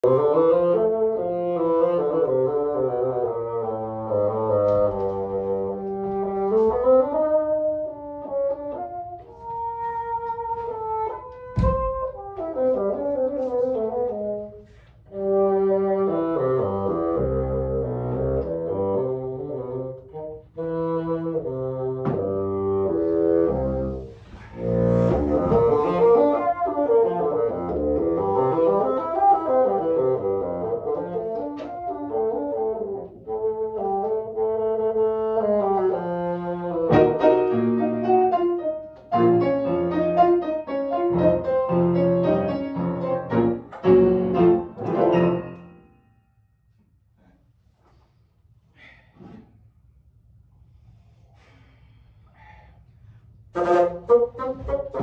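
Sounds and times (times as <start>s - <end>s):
bassoon solo melody: 0.0s - 45.9s, 53.6s - 55.0s.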